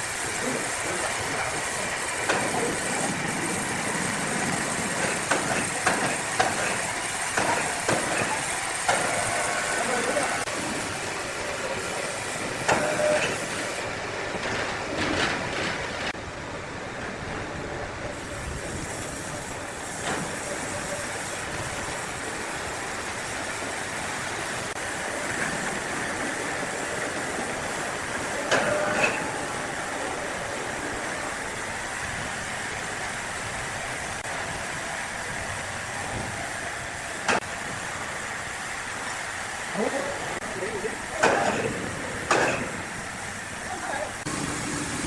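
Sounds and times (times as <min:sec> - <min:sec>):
sawmill machinery running: 0:00.0 - 0:45.0.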